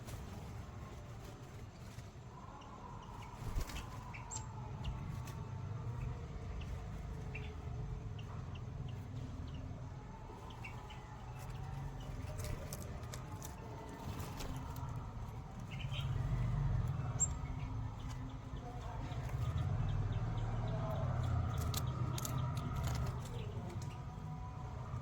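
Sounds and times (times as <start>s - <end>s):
birds chirping: 0.0s - 25.0s
steady low rumble: 2.4s - 25.0s.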